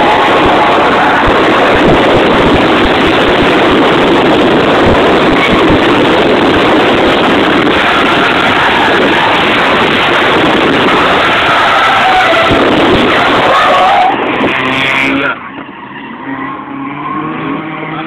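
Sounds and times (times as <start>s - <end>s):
car moving at speed: 0.0s - 18.0s
rotary engine revving hard: 0.0s - 18.0s.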